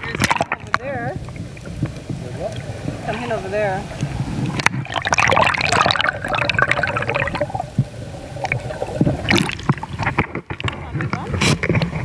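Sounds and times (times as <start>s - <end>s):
seawater gurgling and splashing: 0.0s - 12.0s.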